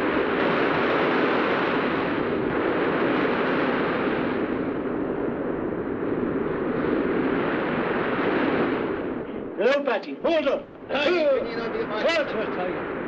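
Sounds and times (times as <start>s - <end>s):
sea surf breaking: 0.0s - 13.0s.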